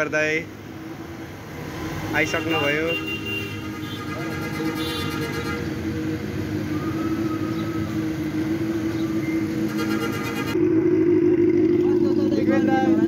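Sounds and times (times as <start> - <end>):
traffic passing on busy road: 0.0 - 13.0.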